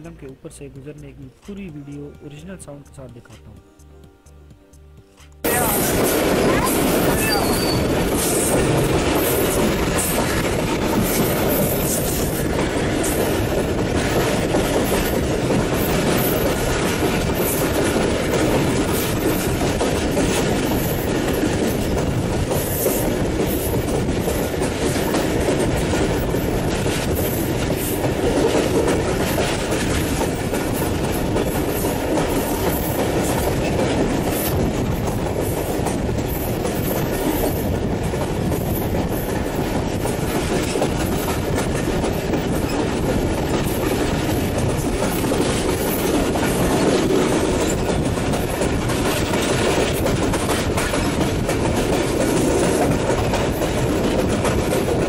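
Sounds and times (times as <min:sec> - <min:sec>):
train rumbling over bridge: 0:05.4 - 0:55.0
wheels clickety-clack over rail joints: 0:05.4 - 0:55.0.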